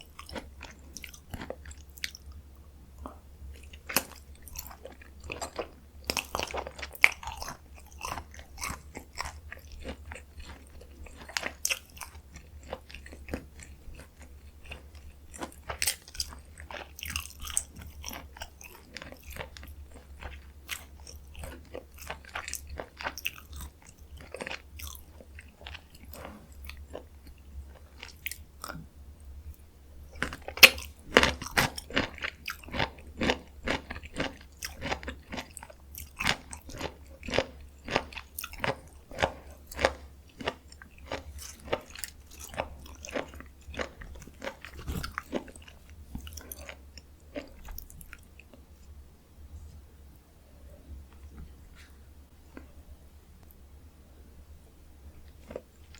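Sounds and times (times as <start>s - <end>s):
close chewing and biting: 0.0s - 2.4s, 3.0s - 28.9s, 29.5s - 48.9s, 55.2s - 55.9s.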